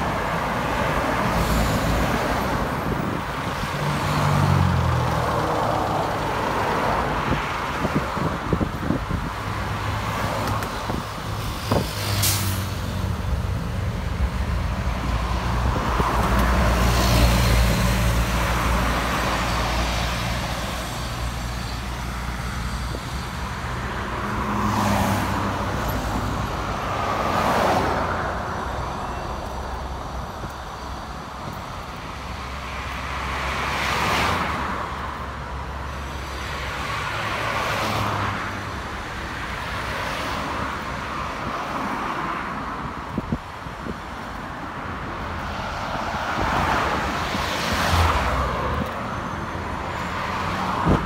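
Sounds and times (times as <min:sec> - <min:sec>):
vehicles passing: 0:00.0 - 0:51.0.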